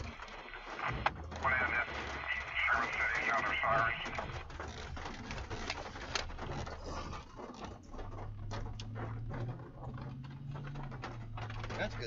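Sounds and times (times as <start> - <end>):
car engine and road drone: 0.0 - 12.0
rain tapping on car: 0.0 - 12.0.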